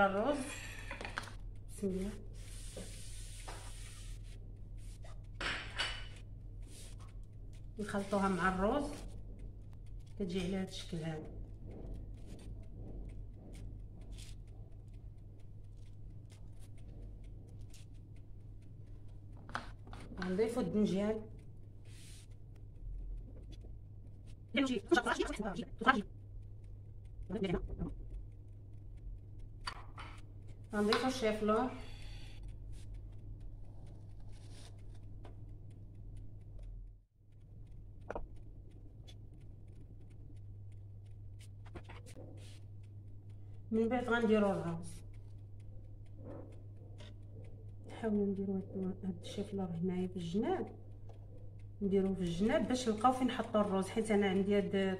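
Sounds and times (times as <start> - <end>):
fingers stirring dry rice: 0.0 - 5.4, 6.0 - 36.7, 37.4 - 54.9
low hum: 0.0 - 54.9.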